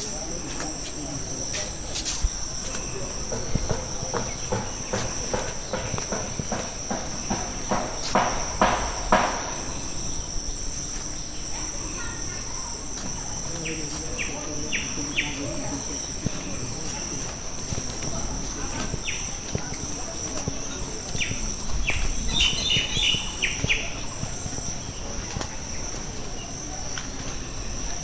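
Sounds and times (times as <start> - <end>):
footsteps on a path: 0.0 - 10.4, 11.0 - 28.0
high-pitched insect chorus: 0.0 - 28.0.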